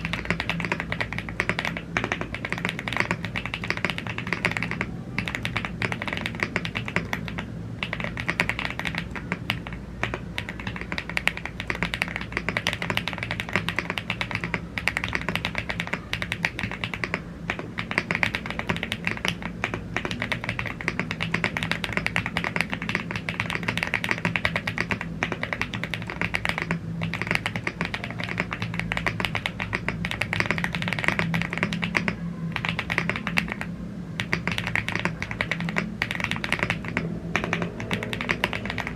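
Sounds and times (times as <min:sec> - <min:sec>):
mechanical keyboard typing clicks: 0:00.0 - 0:38.9.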